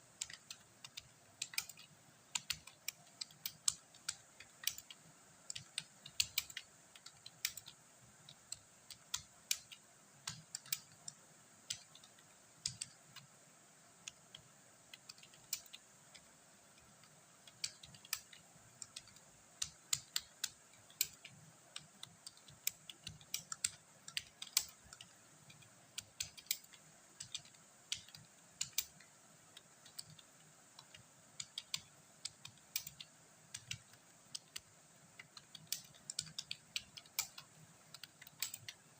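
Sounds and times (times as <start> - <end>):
computer keyboard typing: 0.1 - 13.3, 14.0 - 38.9.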